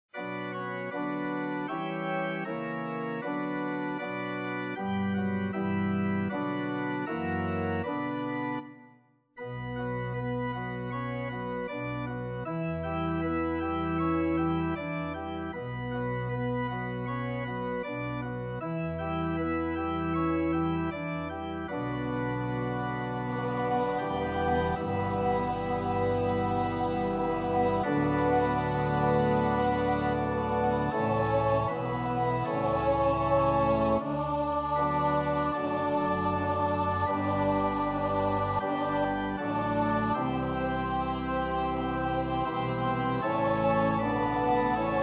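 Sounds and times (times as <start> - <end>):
deep organ pedal notes: 0.1 - 8.8, 9.4 - 45.0
organ playing chords: 0.1 - 45.0.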